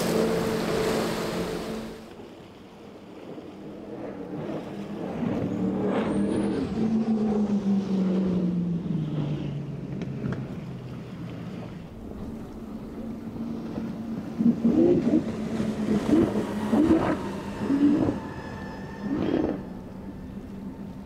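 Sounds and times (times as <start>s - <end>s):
powerboat engines roaring: 0.0s - 21.0s.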